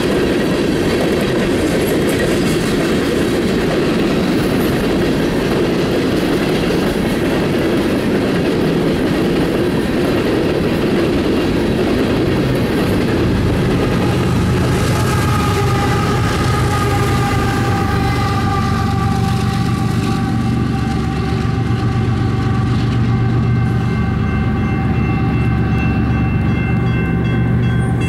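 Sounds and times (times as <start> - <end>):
diesel locomotives rumbling: 0.0 - 28.0.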